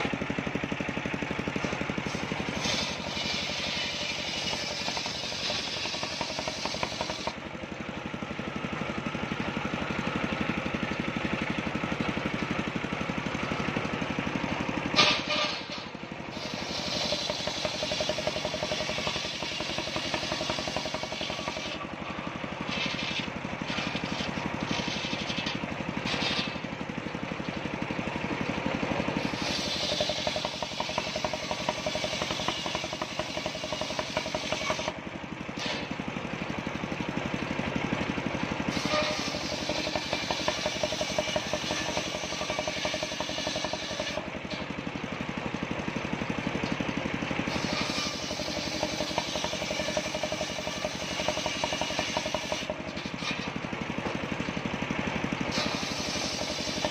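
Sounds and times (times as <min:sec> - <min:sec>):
circular saw cutting wood: 0:00.0 - 0:00.5, 0:01.2 - 0:07.6, 0:13.2 - 0:36.0, 0:38.0 - 0:45.6, 0:46.3 - 0:56.9.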